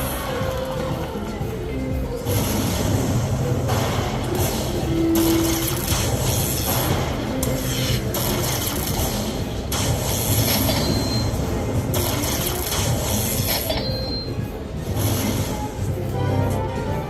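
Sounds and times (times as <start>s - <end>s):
slot machine sound effects and jingles: 2.2s - 17.0s.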